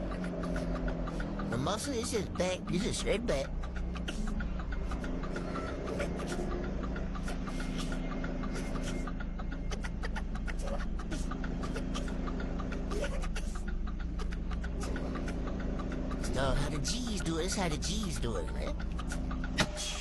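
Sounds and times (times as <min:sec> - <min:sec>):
diesel truck engine idling low: 0:00.0 - 0:20.0.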